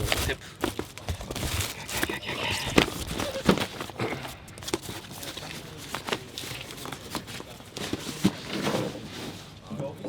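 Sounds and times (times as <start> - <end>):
rustling and crinkling: 0.0 - 9.9.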